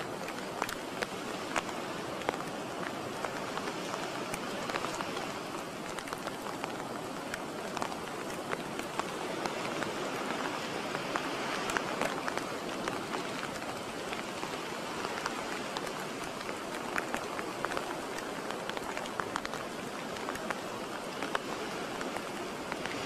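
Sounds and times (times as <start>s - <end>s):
small crackles and ticks: 0.0s - 23.0s.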